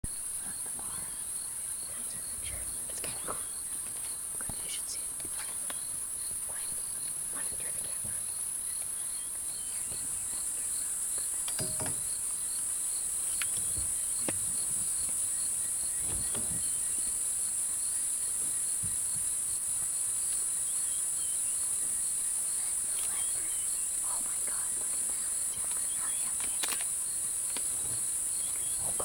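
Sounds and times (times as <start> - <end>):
cricket chirping: 0.0 - 29.0
night insects trilling: 0.1 - 29.0.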